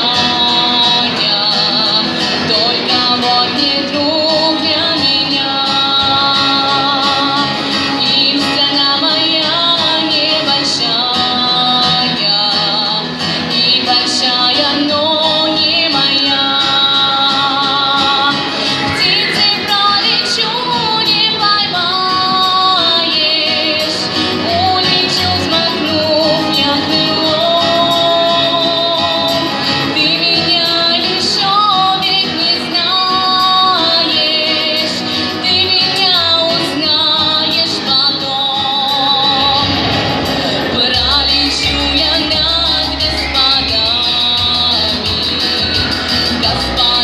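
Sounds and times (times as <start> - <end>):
girl singing: 0.0 - 39.9, 40.7 - 45.2
pop backing track: 0.0 - 47.0.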